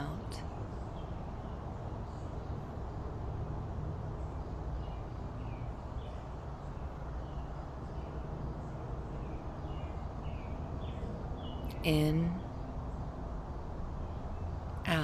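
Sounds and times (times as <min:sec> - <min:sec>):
steady low background noise: 0:00.0 - 0:15.0
small birds chirping: 0:00.4 - 0:03.1, 0:04.1 - 0:15.0.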